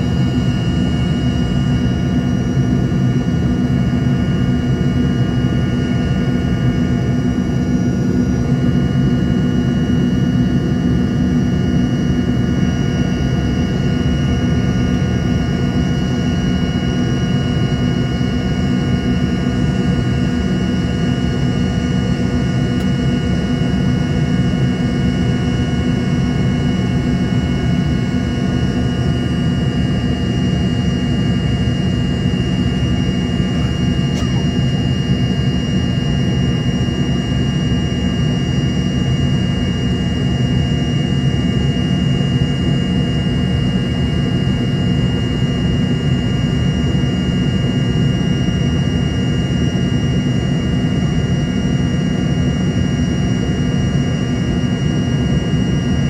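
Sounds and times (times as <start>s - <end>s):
jet engines inside cabin: 0.0s - 56.0s.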